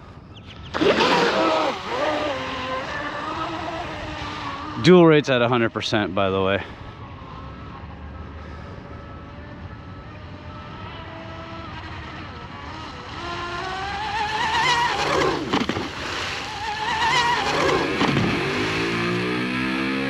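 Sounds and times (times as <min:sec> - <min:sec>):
rc boat motor whine passing by: 0:00.0 - 0:20.0.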